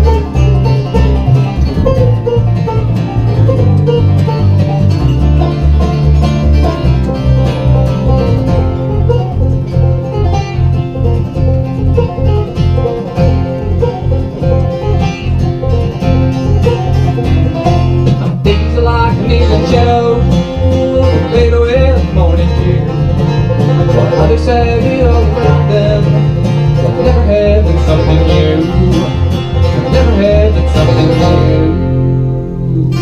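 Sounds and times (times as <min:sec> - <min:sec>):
fast plucked-string picking: 0:00.0 - 0:33.0
pulsing bass beat: 0:00.0 - 0:33.0.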